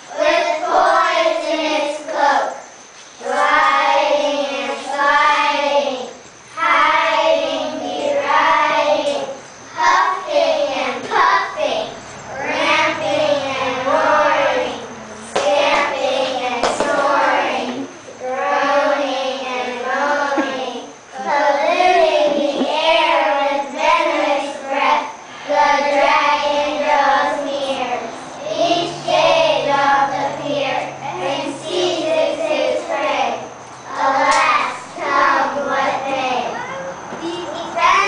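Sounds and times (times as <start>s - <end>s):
young children singing: 0.0s - 38.0s.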